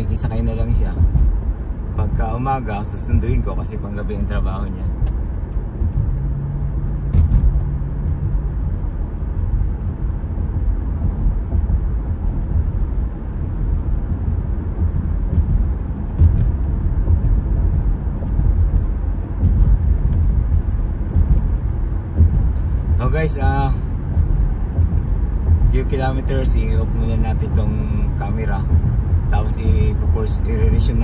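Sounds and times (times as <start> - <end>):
car road noise rumble: 0.0 - 31.0
faint low hum: 0.0 - 31.0.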